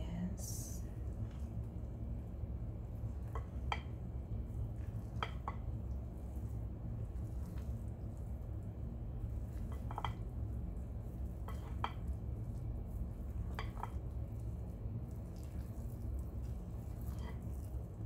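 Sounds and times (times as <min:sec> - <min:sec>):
steady low hum: 0:00.0 - 0:18.0
spatula stirring thick batter: 0:01.0 - 0:18.0.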